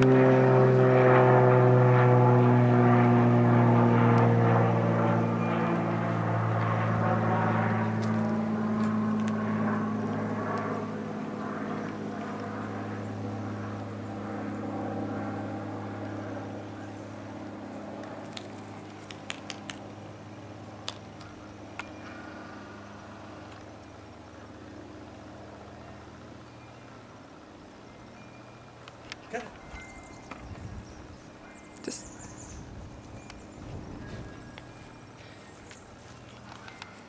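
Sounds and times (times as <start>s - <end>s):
engine drone: 0.0s - 37.0s.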